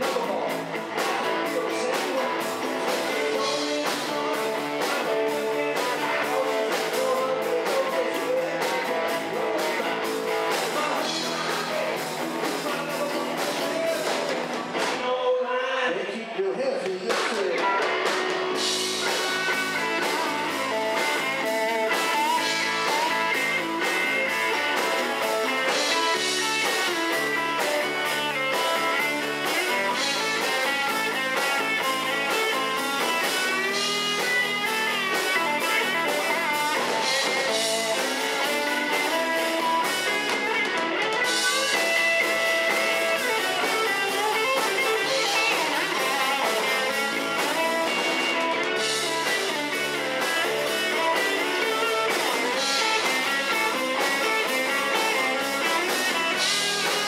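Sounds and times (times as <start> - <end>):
drum kit with cymbals: 0.0 - 15.1, 17.0 - 57.0
electric guitar lead lines: 0.0 - 15.1, 17.5 - 57.0
bass guitar: 0.0 - 15.8, 16.9 - 57.0.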